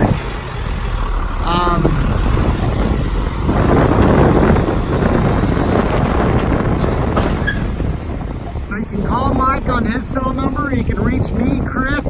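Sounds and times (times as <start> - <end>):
diesel truck driving off: 0.0 - 12.0
wind buffeting microphone: 0.0 - 12.0.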